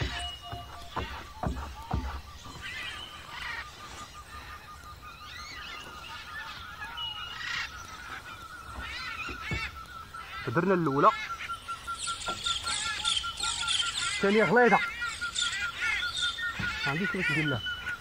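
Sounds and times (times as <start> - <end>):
fast-pulsing bird trill: 0.0 - 4.2, 7.1 - 18.0
birds chirping: 0.0 - 18.0.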